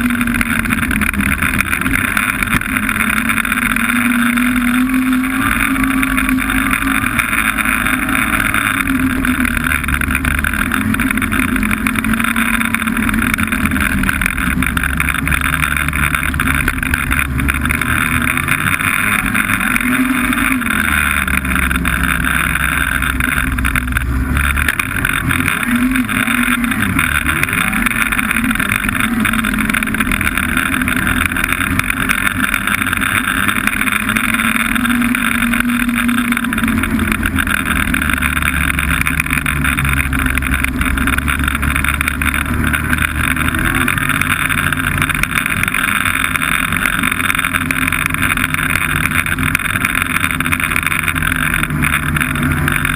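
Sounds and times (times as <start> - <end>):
snowmobile engine running: 0.0 - 52.9
steady rushing noise: 0.0 - 52.9.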